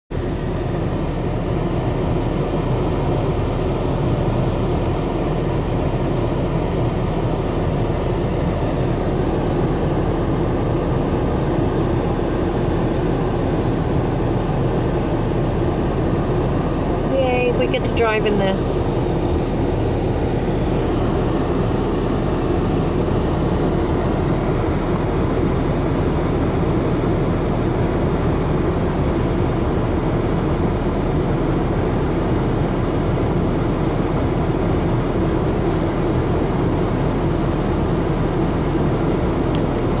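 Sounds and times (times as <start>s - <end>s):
car engine and road noise: 0.1s - 40.0s.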